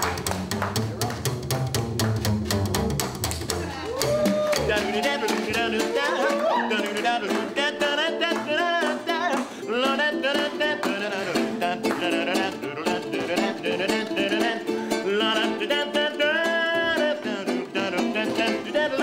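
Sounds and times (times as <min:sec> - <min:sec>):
ukulele strumming: 0:00.0 - 0:19.0
upright bass: 0:00.0 - 0:19.0
man singing: 0:03.5 - 0:19.0.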